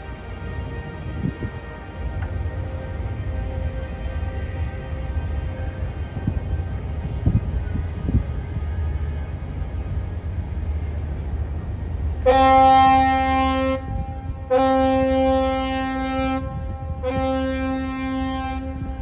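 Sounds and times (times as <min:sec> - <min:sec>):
horn blasts: 0:00.0 - 0:11.0, 0:12.2 - 0:19.0.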